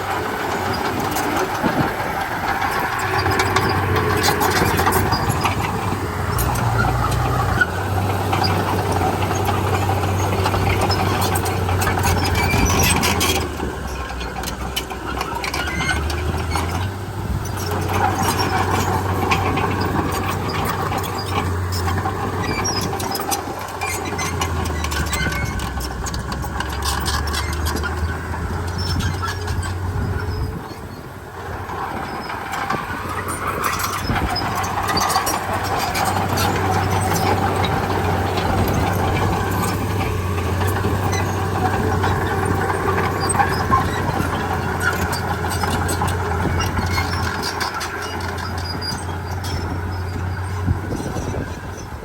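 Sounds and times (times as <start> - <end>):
diesel machinery running: 0.0 - 52.0
metallic clanks and squeaks: 0.0 - 52.0.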